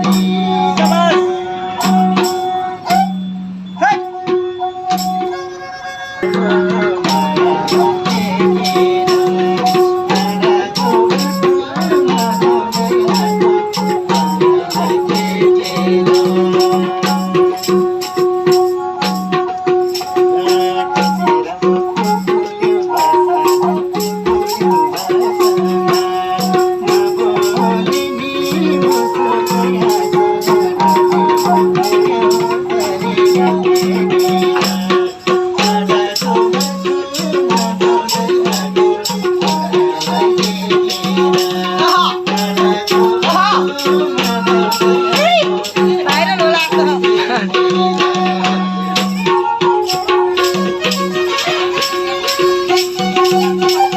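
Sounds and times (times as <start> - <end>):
fast percussion with shaker: 0.0 - 53.9
bowed string melody: 4.1 - 53.9.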